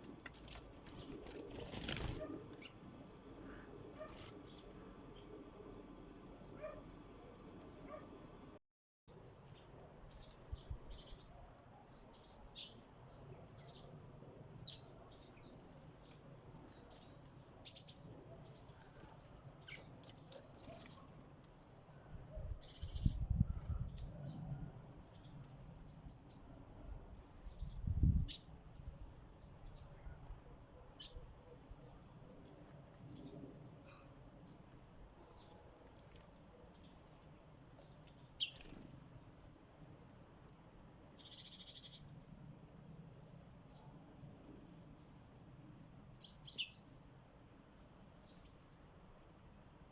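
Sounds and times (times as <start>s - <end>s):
sparrows chirping: 0.2s - 5.5s, 6.2s - 42.3s, 43.0s - 49.9s.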